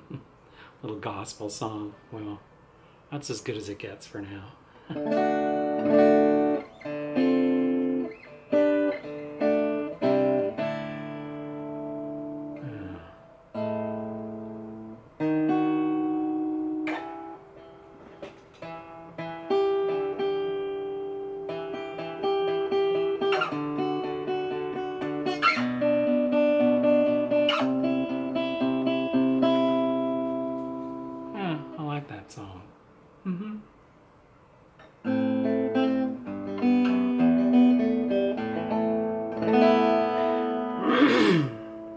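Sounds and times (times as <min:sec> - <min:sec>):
acoustic guitar fingerpicked: 0:04.8 - 0:32.2, 0:34.8 - 0:41.9.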